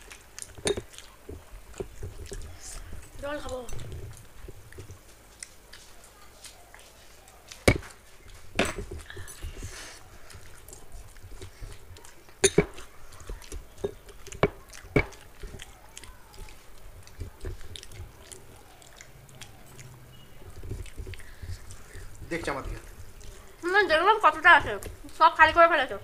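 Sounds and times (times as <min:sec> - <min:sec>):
fingers mixing food on steel plate: 0:00.0 - 0:26.0.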